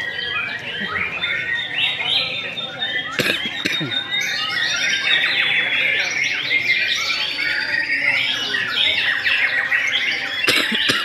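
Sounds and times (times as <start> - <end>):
birds singing whistles and trills: 0.0 - 11.0.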